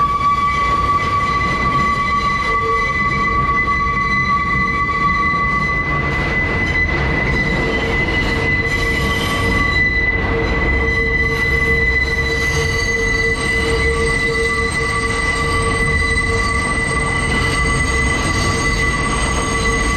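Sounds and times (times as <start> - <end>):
train rumble: 0.0 - 19.9
train wheels squealing on rail: 0.0 - 19.9.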